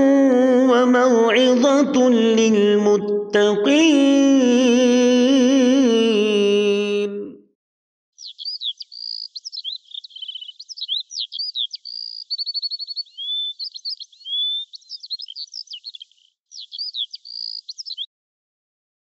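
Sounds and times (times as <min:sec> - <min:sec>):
songbird singing: 0:00.0 - 0:06.0, 0:08.2 - 0:18.1.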